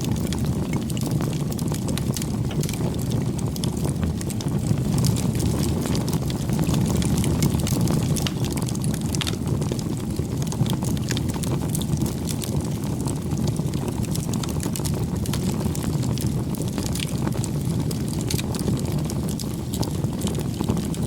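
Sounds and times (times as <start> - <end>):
burning wood crackling and popping: 0.0 - 21.0
campfire flames rushing: 0.0 - 21.0.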